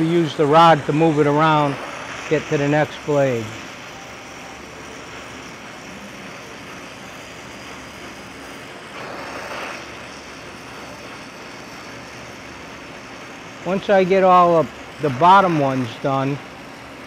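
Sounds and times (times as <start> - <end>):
brazing torch hissing: 0.0 - 17.0.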